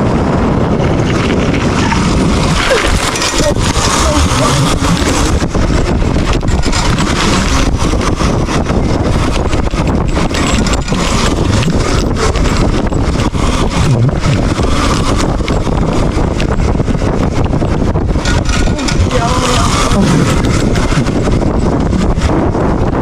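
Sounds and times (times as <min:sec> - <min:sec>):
wind buffeting microphone: 0:00.0 - 0:23.0
knocks and jolts: 0:00.8 - 0:22.8.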